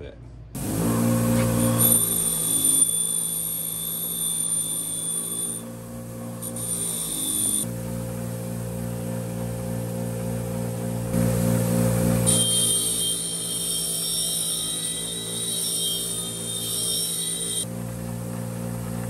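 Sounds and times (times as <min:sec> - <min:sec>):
bench grinder motor hum: 0:00.6 - 0:19.0
wire wheel brushing metal: 0:00.9 - 0:10.0, 0:10.8 - 0:19.0.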